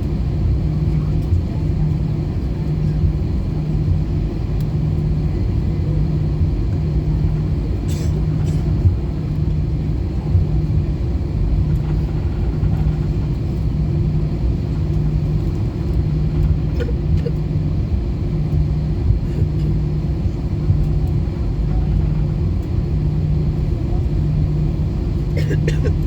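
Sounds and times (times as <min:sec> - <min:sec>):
aircraft cabin engine rumble: 0:00.0 - 0:26.0
pulsing low hum: 0:00.0 - 0:26.0.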